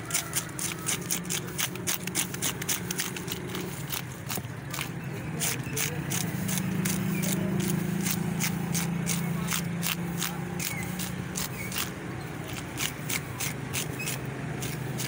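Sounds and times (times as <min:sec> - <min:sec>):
scaler scraping fish scales: 0:00.0 - 0:15.0.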